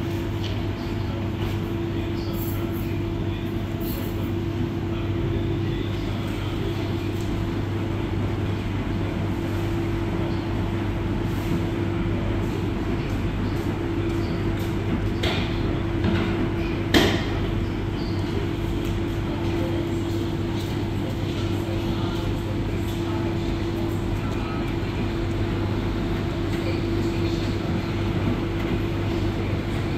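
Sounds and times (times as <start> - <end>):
washing machine motor hum: 0.0 - 29.9.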